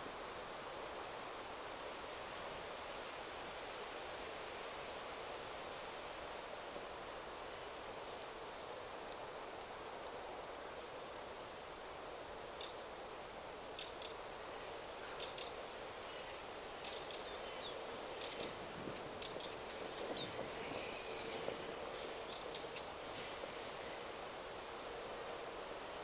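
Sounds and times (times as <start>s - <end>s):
wind rustling through trees: 0.0s - 26.0s.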